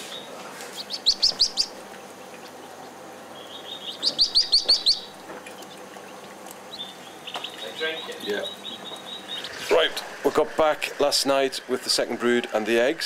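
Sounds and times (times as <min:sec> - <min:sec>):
duckling peeping: 0:00.0 - 0:11.0.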